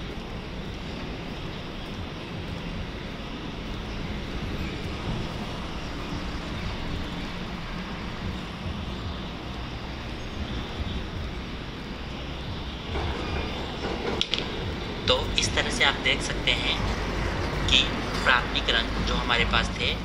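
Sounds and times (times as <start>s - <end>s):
steady background rumble and hiss: 0.0s - 20.0s.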